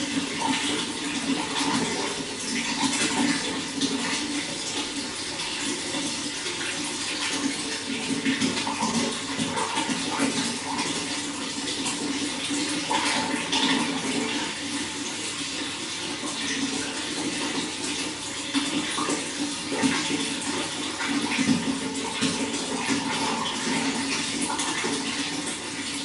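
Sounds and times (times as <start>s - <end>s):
running water splashing: 0.0s - 26.0s.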